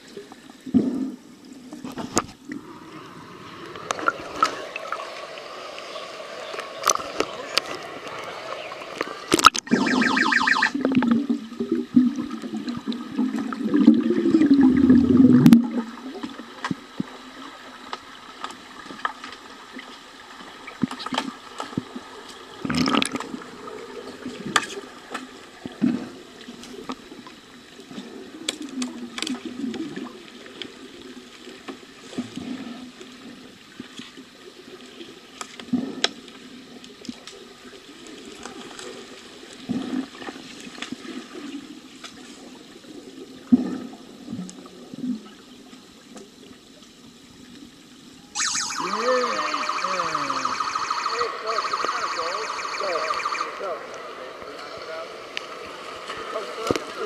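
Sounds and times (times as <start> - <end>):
low rumble of moving water: 0.0 - 57.0
muffled underwater gurgling rush: 0.0 - 57.0.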